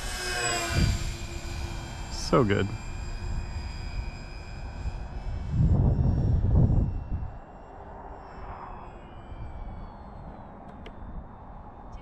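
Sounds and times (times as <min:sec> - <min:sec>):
electric model plane motors whining: 0:00.0 - 0:12.0.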